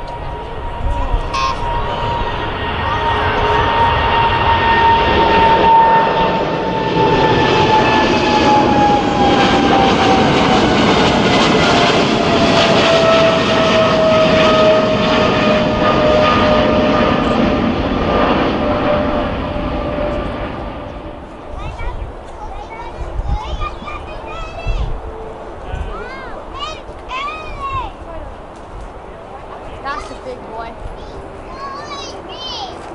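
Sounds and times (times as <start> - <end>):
jet engine roar with whine: 0.0 - 32.9.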